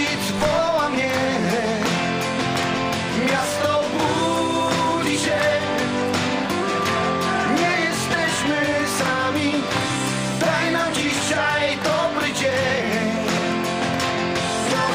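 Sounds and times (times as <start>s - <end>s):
rock song with guitar and singing: 0.0s - 14.9s.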